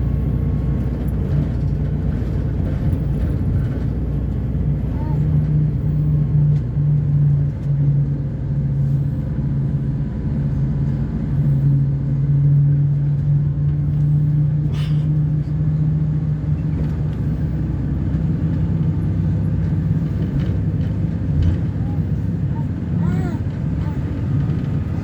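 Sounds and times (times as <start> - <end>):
diesel bus engine droning: 0.0 - 25.0.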